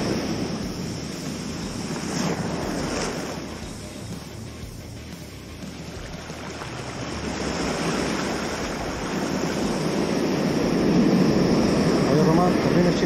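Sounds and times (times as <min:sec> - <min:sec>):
ocean surf washing in: 0:00.0 - 0:04.6, 0:05.7 - 0:13.0.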